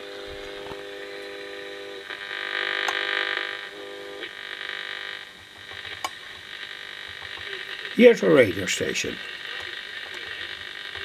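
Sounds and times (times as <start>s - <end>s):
radio buzzing tone: 0.0s - 11.0s
radio click: 0.2s - 1.4s, 2.1s - 3.6s, 4.2s - 11.0s.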